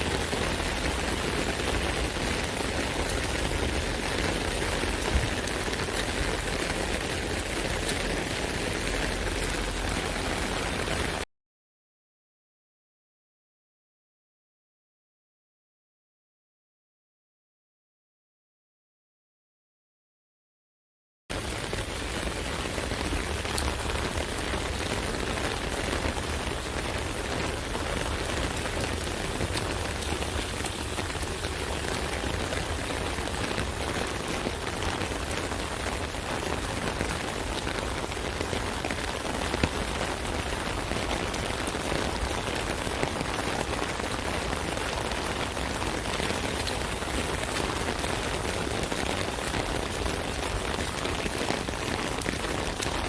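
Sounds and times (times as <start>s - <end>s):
rain on an umbrella: 0.0s - 11.3s, 21.3s - 53.0s.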